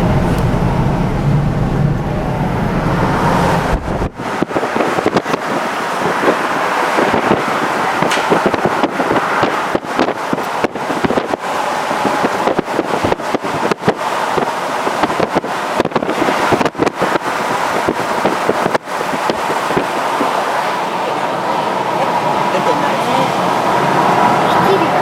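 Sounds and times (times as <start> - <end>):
wind buffeting microphone: 0.0 - 22.6
road noise: 0.0 - 25.0.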